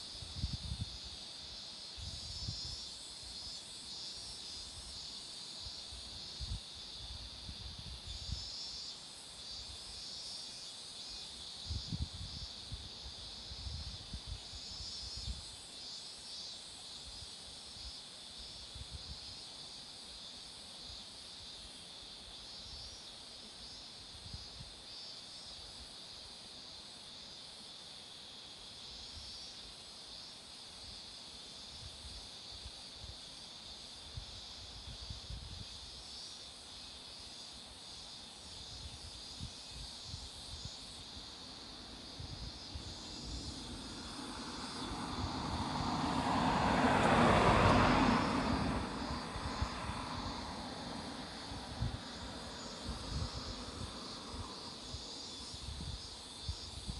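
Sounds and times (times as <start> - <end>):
cicadas singing: 0.0 - 56.9.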